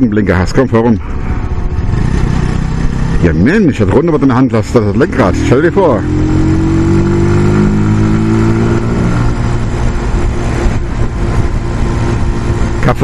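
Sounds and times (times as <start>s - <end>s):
motorcycle engine accelerating: 1.0s - 13.0s.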